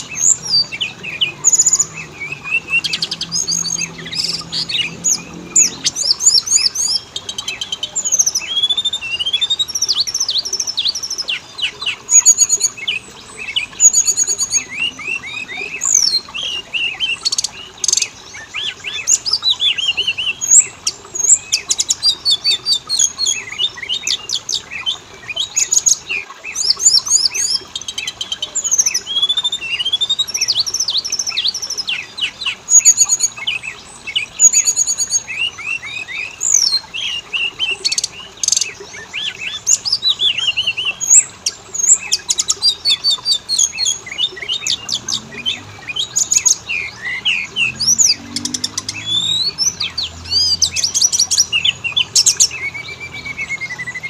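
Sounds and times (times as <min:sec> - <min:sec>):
bird singing whistles and chirps: 0:00.0 - 0:54.0.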